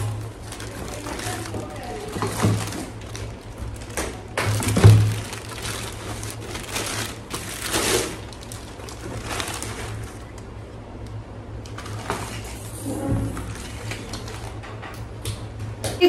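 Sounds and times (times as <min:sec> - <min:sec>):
plastic bag crinkling: 0:00.0 - 0:10.6, 0:11.6 - 0:14.8
steady low hum: 0:00.0 - 0:16.0.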